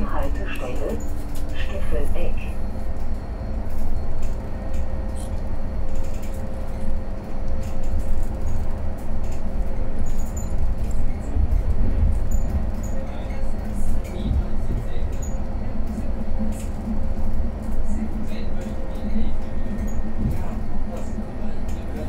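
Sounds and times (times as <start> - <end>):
bus cabin rumble: 0.0 - 22.0.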